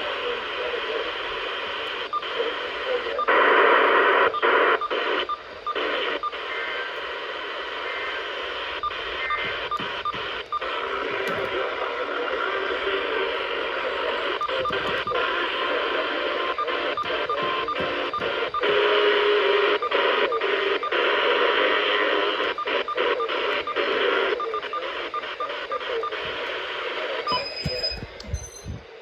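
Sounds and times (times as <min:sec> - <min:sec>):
radio crackles: 0:00.0 - 0:29.0
radio static hiss: 0:00.0 - 0:29.0.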